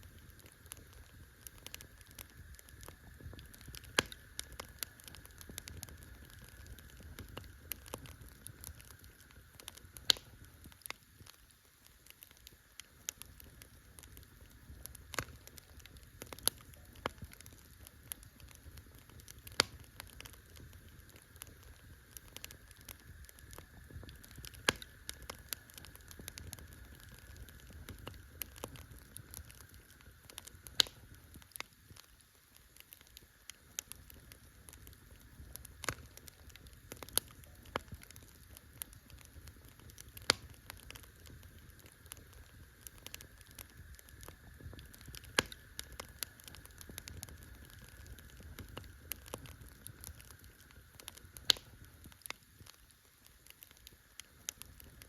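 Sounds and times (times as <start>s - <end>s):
campfire crackling: 0.0s - 55.0s
faint low rumble: 0.0s - 55.0s.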